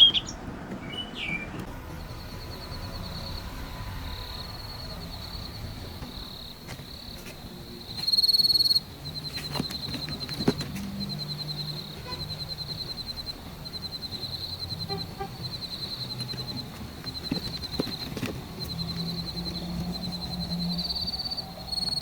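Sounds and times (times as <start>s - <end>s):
low hum: 1.6s - 21.7s
crickets chirping: 1.6s - 22.0s.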